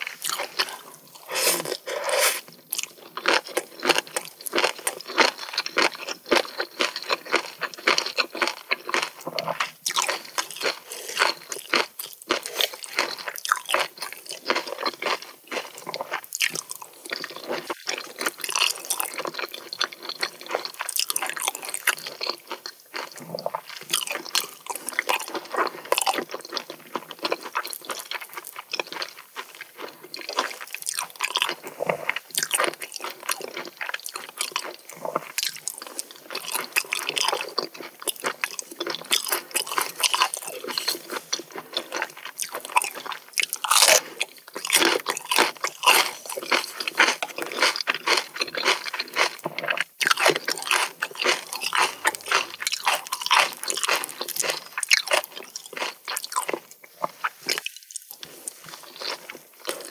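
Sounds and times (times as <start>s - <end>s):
chewing and crunchy biting: 0.0s - 59.9s.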